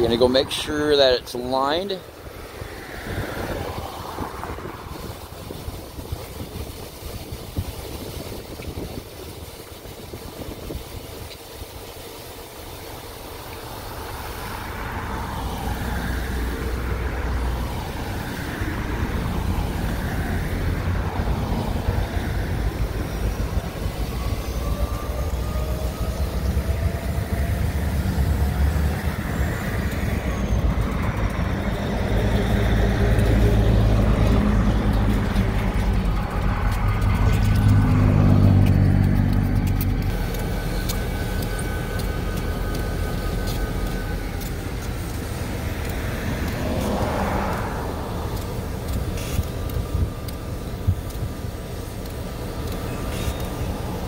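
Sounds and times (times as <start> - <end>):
diesel locomotive engine running: 0.0 - 54.0
road vehicles passing: 0.0 - 54.0.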